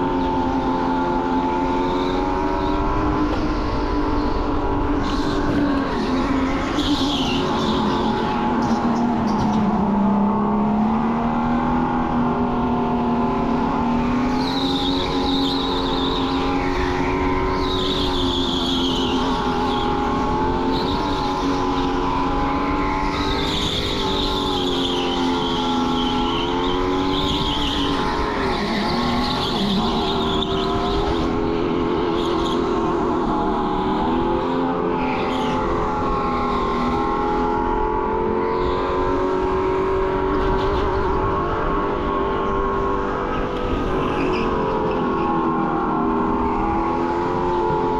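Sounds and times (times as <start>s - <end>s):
go-kart motor whining: 0.0s - 47.9s.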